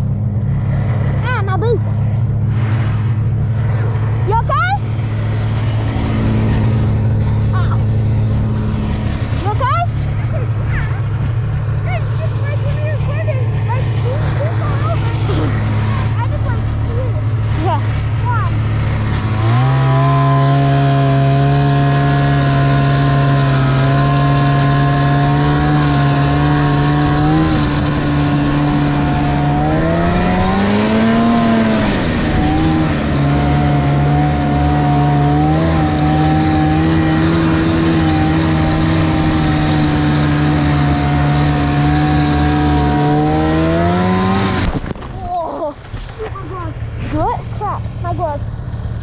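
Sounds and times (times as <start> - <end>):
snowmobile engine running: 0.0 - 49.0.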